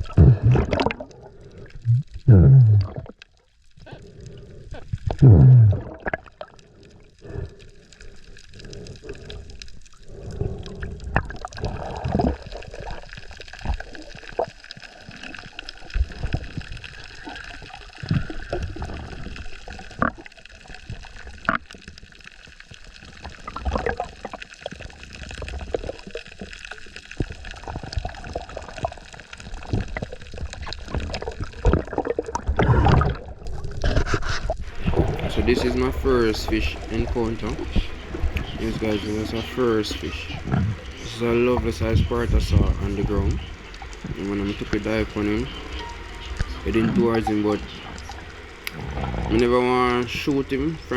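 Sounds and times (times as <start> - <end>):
underwater water sloshing: 0.0 - 50.9.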